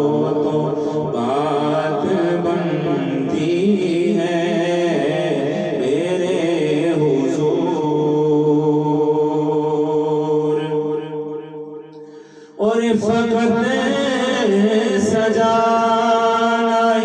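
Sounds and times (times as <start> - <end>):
man singing unaccompanied: 0.0 - 11.0, 12.5 - 17.0.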